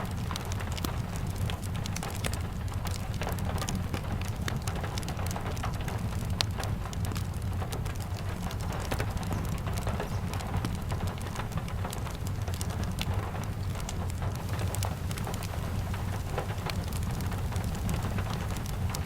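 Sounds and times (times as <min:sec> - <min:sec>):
steady rain: 0:00.0 - 0:19.0
wood fire crackling and popping: 0:00.0 - 0:19.0.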